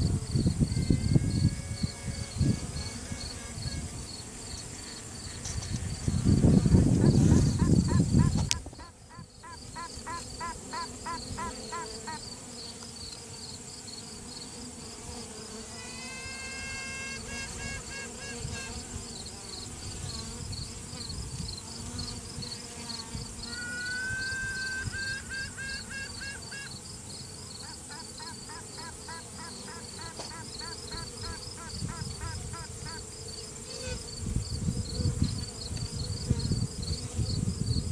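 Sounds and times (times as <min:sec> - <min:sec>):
hum of bee colony: 0:00.0 - 0:37.9
queen bee piping: 0:00.0 - 0:37.9.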